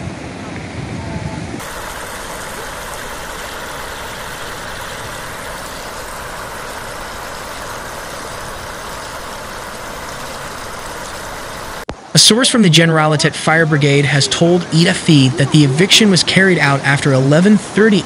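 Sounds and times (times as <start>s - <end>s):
floodwater rushing: 1.6s - 18.0s.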